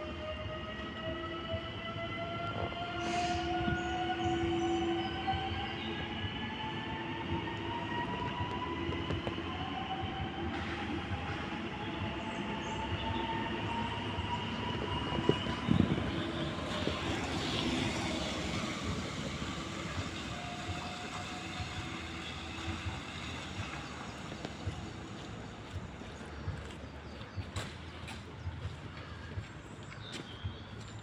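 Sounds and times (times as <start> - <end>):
electric train whine rising: 0.0 - 26.7
train wheels rumbling: 0.0 - 31.0.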